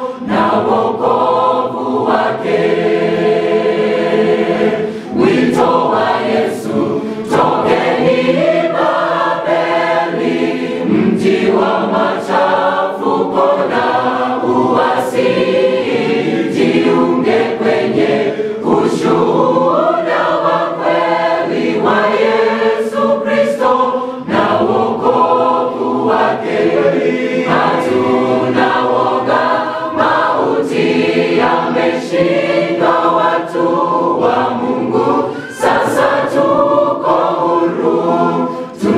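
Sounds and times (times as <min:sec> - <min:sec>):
mixed choir singing gospel: 0:00.0 - 0:38.9.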